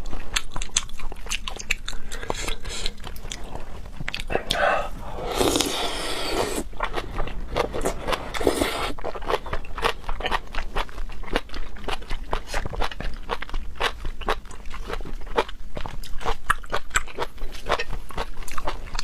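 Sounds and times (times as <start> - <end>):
crisp chewing crunches: 0.0 - 19.0.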